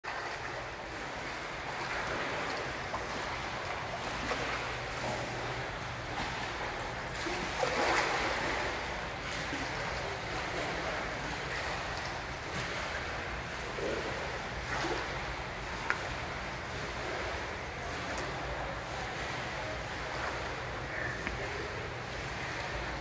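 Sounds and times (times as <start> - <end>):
pool water splashing from kicking: 0.0 - 23.0.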